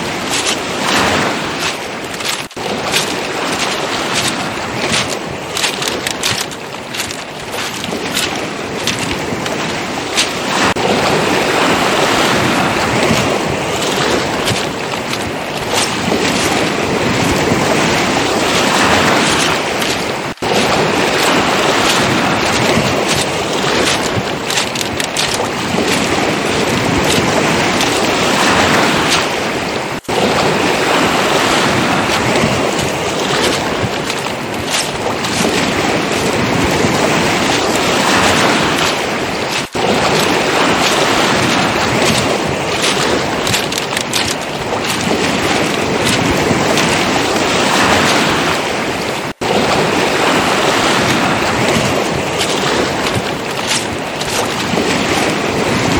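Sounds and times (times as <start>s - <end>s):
footsteps crunching on pebbles: 0.0s - 29.4s, 30.0s - 48.6s, 51.1s - 55.9s
sea waves surging: 0.0s - 55.9s
wind on microphone: 0.0s - 55.9s.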